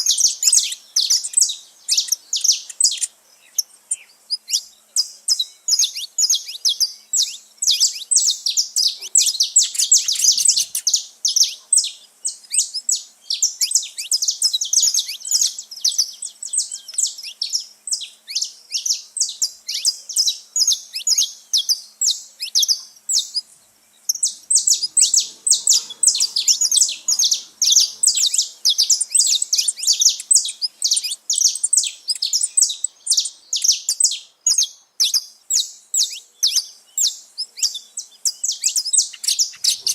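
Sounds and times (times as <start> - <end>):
finches singing high chirps: 0.0 - 39.9.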